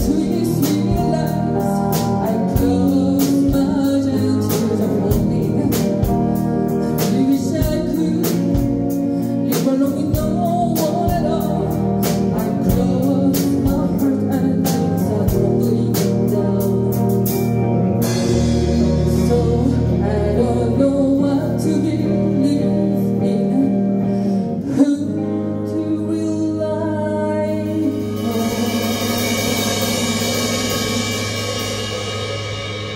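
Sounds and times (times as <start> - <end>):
woman singing: 0.0 - 32.0
live rock band: 0.0 - 32.9.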